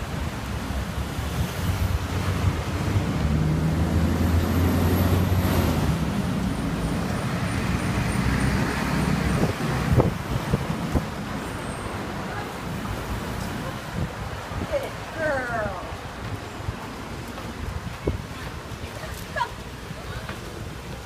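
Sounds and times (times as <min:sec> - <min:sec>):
roar of passing traffic: 0:00.0 - 0:18.2.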